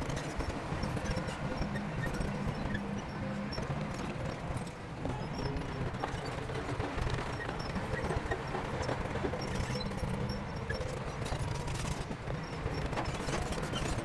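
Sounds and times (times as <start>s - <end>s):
steel tracks clattering: 0.0s - 14.0s.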